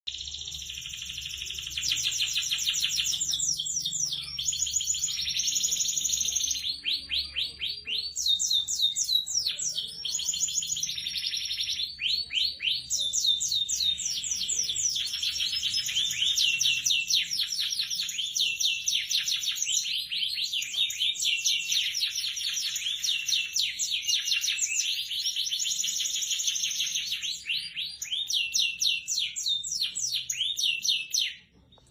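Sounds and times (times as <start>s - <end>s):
canary singing trills: 0.1s - 31.9s.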